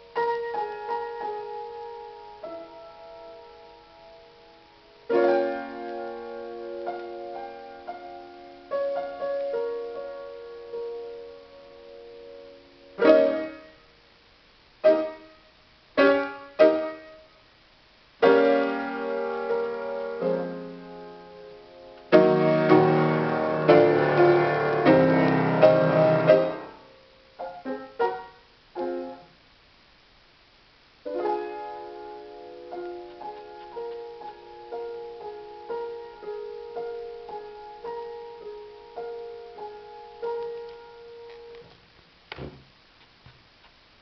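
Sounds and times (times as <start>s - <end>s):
solo piano chords: 0.0s - 14.0s, 14.8s - 17.4s, 18.2s - 29.4s, 31.0s - 41.7s.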